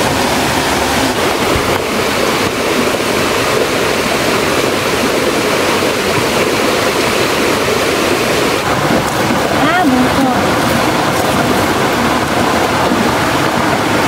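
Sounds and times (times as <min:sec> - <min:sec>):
waterfall and stream rushing: 0:00.0 - 0:14.0.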